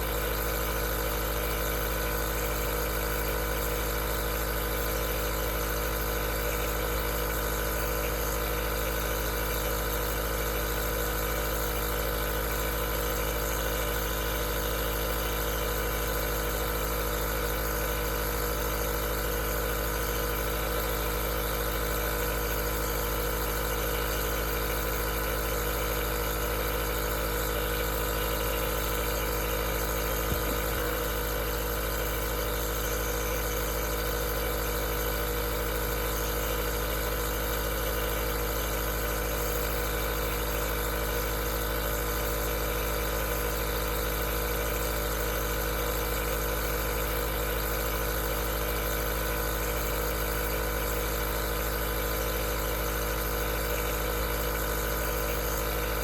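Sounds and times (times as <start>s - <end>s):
nebulizer motor humming: 0.0s - 56.0s.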